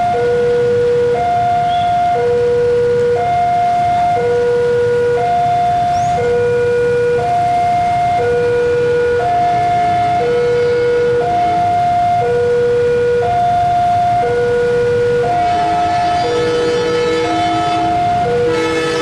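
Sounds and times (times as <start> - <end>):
level crossing two-tone alarm: 0.0 - 19.0.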